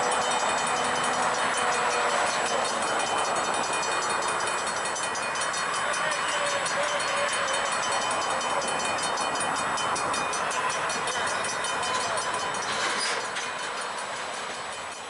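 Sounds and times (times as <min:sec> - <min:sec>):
faint wheel squeals: 0:00.0 - 0:15.0
freight train rolling on rails: 0:00.0 - 0:15.0.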